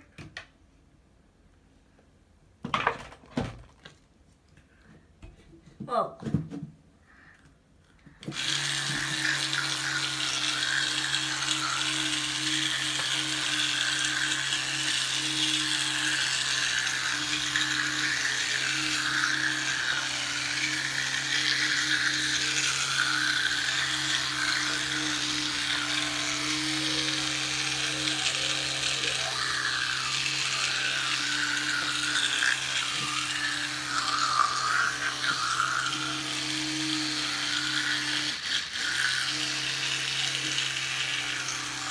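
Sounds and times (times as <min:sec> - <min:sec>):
electric toothbrush buzzing: 0:08.2 - 0:41.9.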